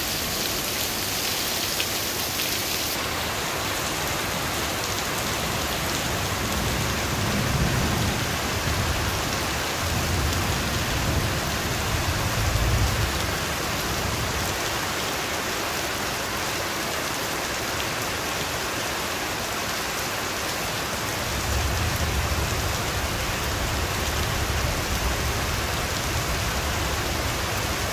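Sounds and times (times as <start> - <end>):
heavy rain hissing: 0.0 - 14.9, 20.1 - 27.9.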